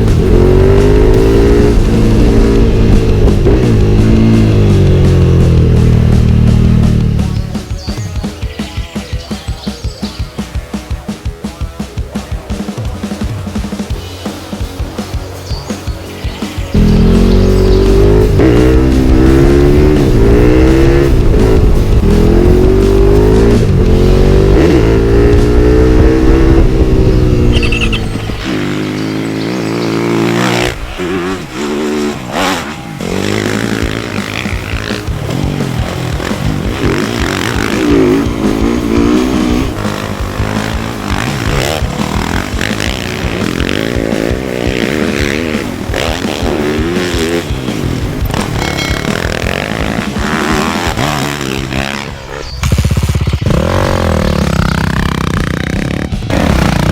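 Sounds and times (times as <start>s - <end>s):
dirt bike engine revving: 0.0s - 9.8s, 12.8s - 56.9s.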